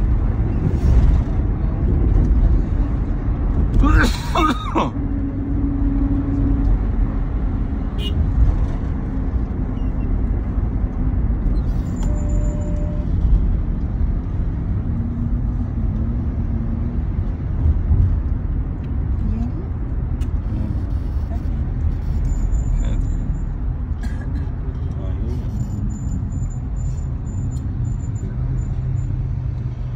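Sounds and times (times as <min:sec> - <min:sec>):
van engine and road rumble: 0:00.0 - 0:29.9.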